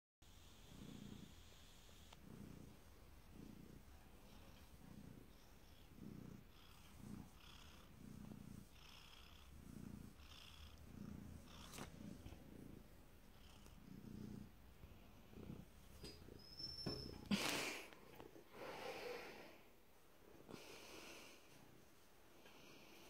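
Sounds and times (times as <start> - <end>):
cat purring: 0.3 - 23.0.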